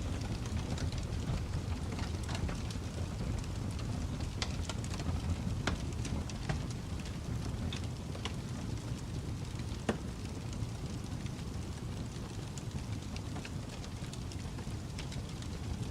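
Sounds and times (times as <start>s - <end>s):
fire crackling and popping: 0.0s - 15.9s
low rumble of burning: 0.0s - 15.9s.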